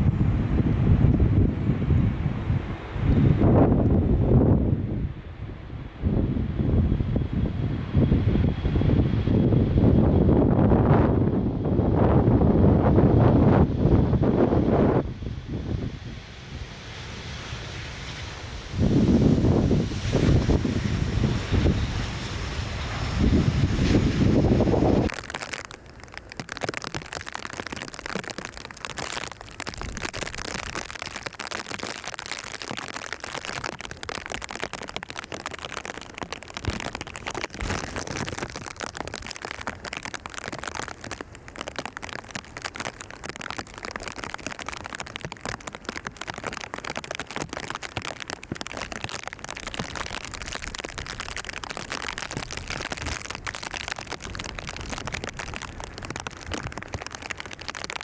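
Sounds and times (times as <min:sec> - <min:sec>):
rain pattering on a surface: 0:00.0 - 0:04.7, 0:14.0 - 0:58.0.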